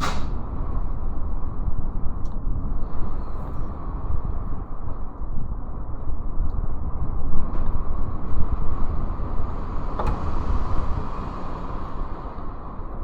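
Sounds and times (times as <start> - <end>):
strong wind gusting: 0.0 - 13.0.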